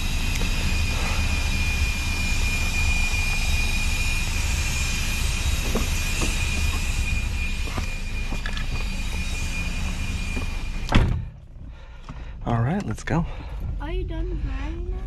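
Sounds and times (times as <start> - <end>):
vacuum machinery whining: 0.0 - 15.0.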